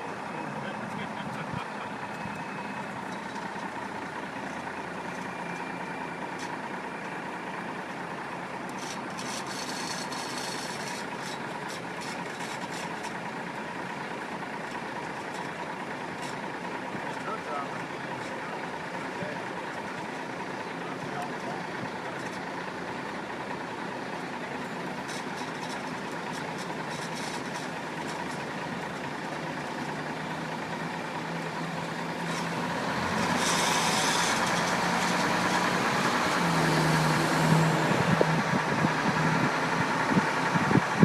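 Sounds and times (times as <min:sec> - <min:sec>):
truck engine and road noise: 0:00.0 - 0:41.0.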